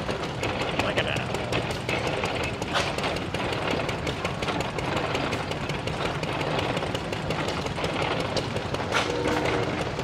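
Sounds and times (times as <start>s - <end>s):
small gas engines clattering: 0.0s - 10.0s.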